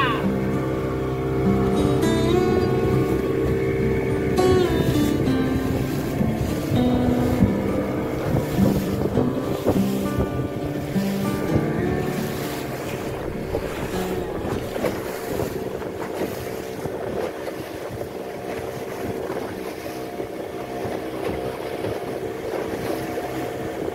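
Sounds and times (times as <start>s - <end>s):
boat engine running: 0.0s - 23.9s
water washing past: 0.0s - 23.9s
wind buffeting microphone: 0.0s - 23.9s.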